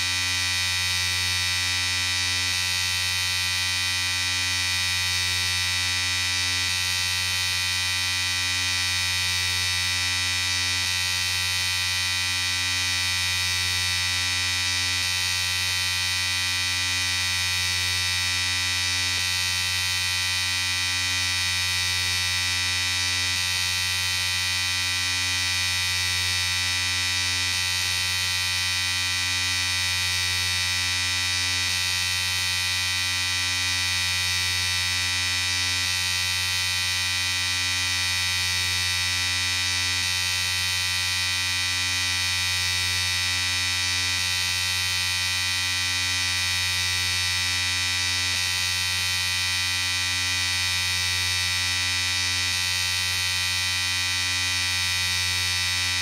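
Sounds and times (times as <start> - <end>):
electric shaver buzzing: 0.0 - 56.0.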